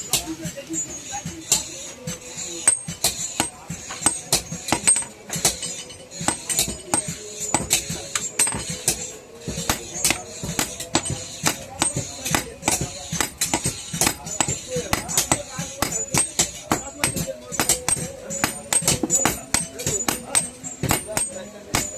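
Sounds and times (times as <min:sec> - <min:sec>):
hammer striking iron on anvil: 0:01.5 - 0:21.9.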